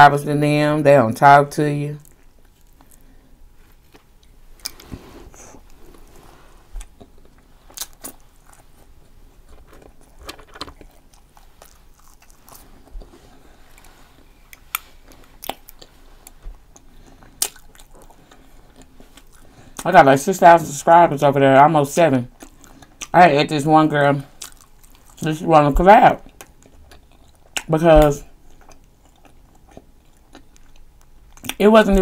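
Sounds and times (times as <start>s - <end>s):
person chewing crunchy fries: 2.0s - 19.9s, 22.3s - 23.2s, 24.2s - 32.0s.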